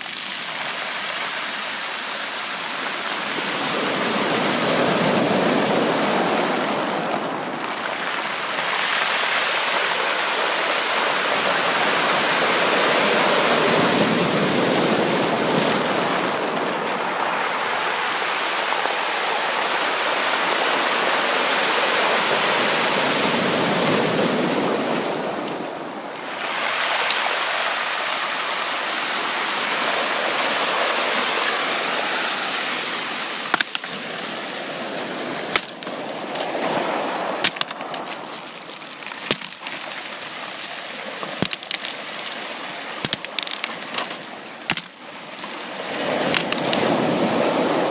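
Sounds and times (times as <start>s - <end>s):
ocean waves on beach: 0.0s - 47.9s.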